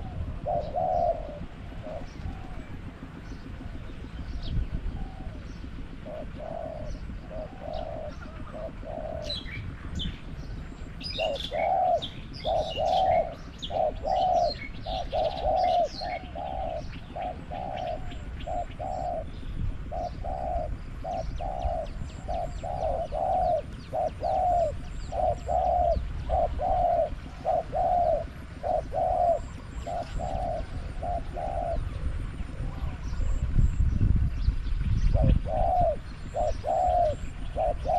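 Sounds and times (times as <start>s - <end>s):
doves cooing: 0.0s - 33.8s, 35.0s - 37.9s
small birds chirping: 0.0s - 37.9s.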